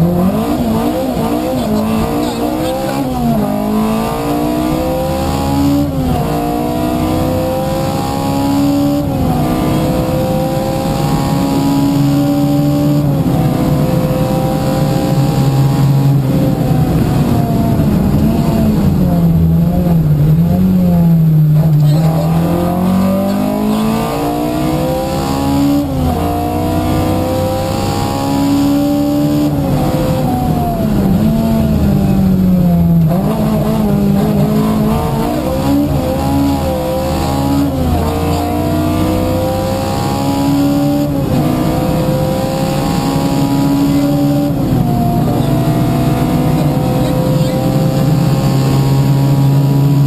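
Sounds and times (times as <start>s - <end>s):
car engine revving through gears: 0.0s - 50.0s.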